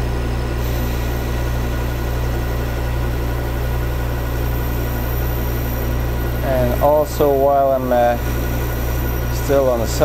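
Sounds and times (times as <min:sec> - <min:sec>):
metal lathe motor hum: 0:00.0 - 0:10.0.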